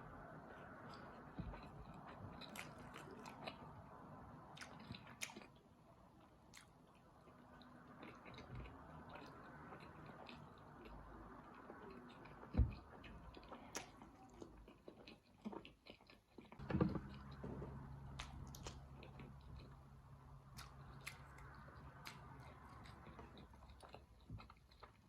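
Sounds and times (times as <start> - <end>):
person chewing food: 0.5 - 5.6, 6.2 - 25.0.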